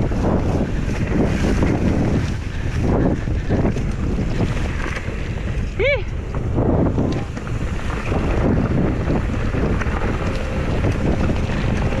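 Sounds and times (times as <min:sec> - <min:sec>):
tyres rumbling on rough ground: 0:00.0 - 0:12.0
wind buffeting microphone: 0:00.0 - 0:12.0.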